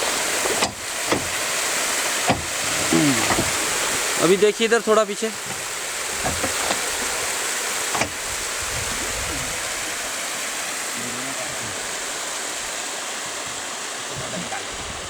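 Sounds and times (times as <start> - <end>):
fast-flowing river water rushing: 0.0 - 15.0.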